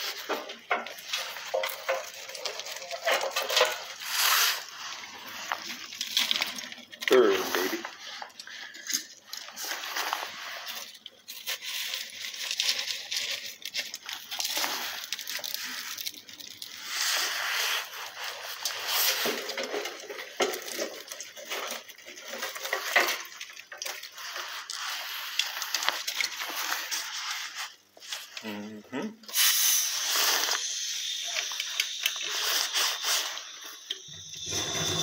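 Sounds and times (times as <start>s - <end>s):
wood fire crackling and popping: 0.0s - 28.4s, 29.3s - 35.0s.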